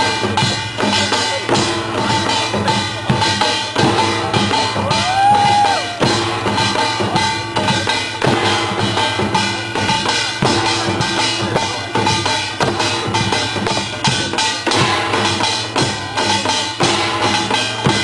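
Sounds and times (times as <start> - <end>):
dense drum strokes: 0.0 - 18.0.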